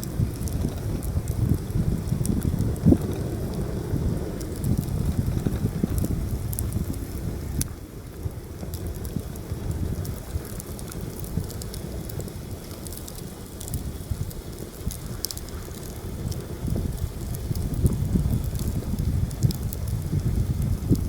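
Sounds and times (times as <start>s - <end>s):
campfire crackling and popping: 0.0s - 21.0s
wind buffeting microphone: 0.0s - 21.0s.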